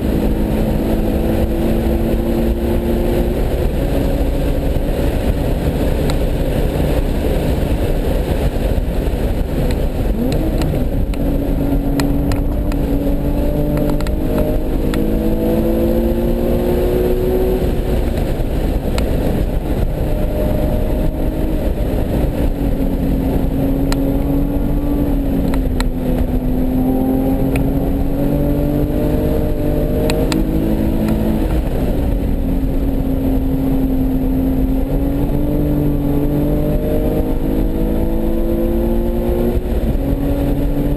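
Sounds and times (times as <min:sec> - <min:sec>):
car engine revving: 0:00.0 - 0:40.9
road and wind rumble: 0:00.0 - 0:40.9.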